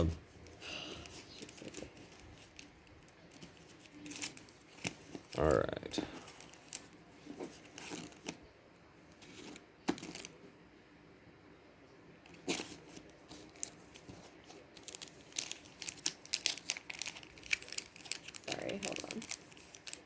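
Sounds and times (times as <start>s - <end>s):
wrapper crinkling and tearing: 0.0s - 8.4s, 9.2s - 10.4s, 12.3s - 20.0s.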